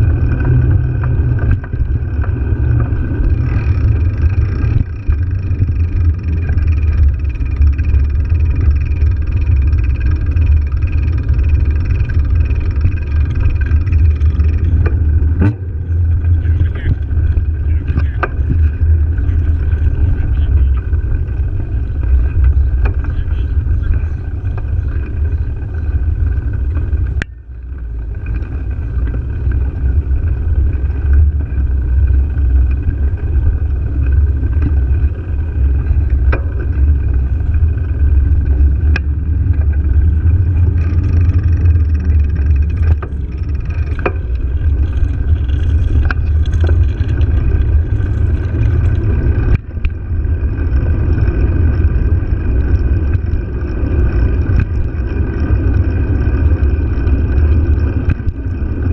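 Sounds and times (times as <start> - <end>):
wind and road noise rumble: 0.0 - 58.9.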